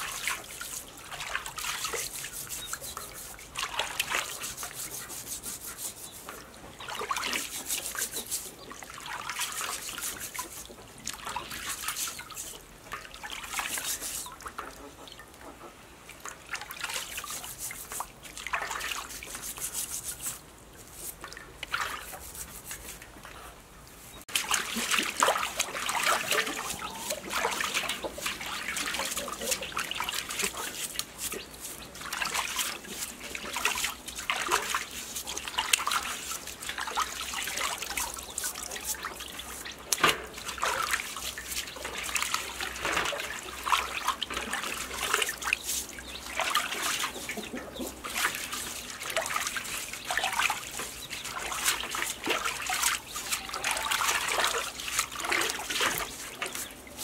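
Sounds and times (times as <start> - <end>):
steel wool scrubbing skin: 0.0 - 6.4, 7.0 - 8.6, 9.3 - 10.8, 11.4 - 12.6, 13.4 - 14.4, 17.0 - 21.2, 21.8 - 23.0, 24.0 - 39.8, 40.4 - 43.0, 43.6 - 57.0
water trickling and splashing: 0.0 - 57.0.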